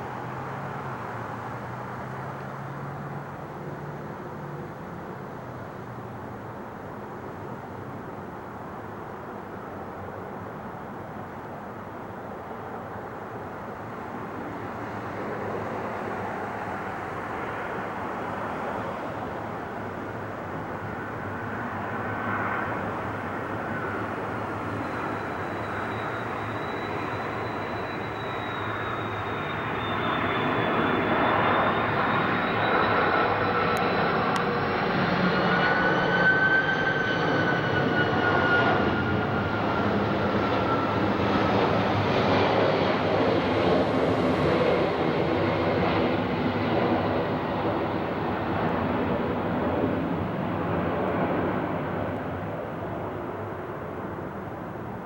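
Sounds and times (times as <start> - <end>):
jet airliner flying past: 0.0 - 55.0.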